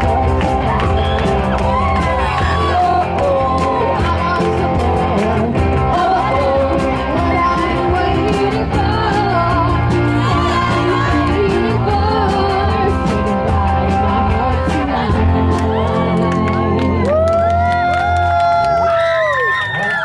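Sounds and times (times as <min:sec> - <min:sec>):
driving drum beat: 0:00.0 - 0:16.4
person singing: 0:00.0 - 0:16.7
live rock band: 0:00.0 - 0:18.6.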